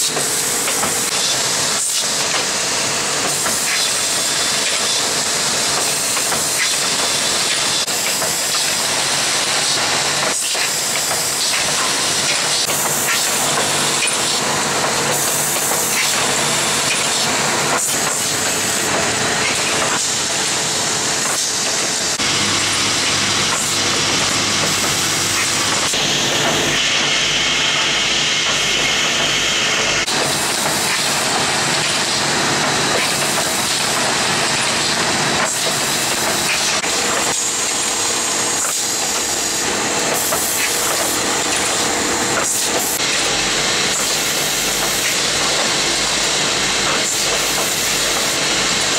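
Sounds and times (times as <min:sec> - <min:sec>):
pneumatic clicks and clacks: 0:00.0 - 0:48.9.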